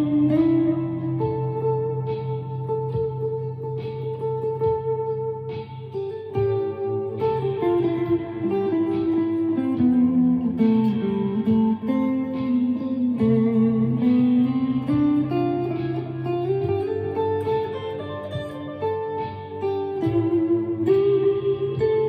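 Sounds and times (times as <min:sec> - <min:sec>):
ambient electric guitar notes: 0:00.0 - 0:22.0.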